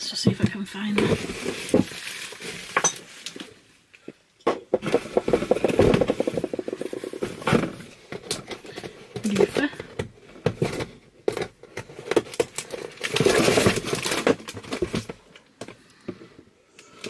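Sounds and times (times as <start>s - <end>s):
items clinking: 0.0s - 3.6s, 4.5s - 16.2s
clicks and rustles: 0.1s - 17.0s
packaging rustling: 0.8s - 3.6s, 4.8s - 15.8s.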